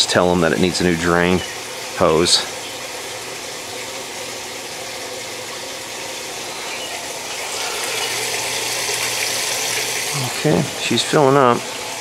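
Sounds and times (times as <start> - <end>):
water rushing into washing machine: 0.0 - 12.0.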